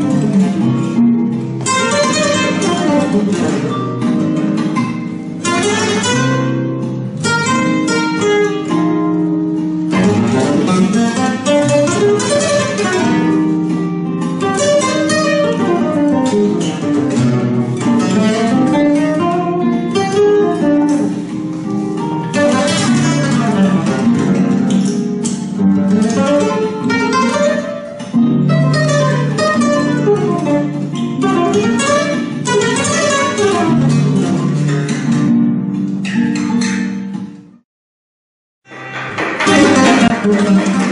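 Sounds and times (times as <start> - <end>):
flamenco guitar music: 0.0 - 37.6, 38.6 - 40.9.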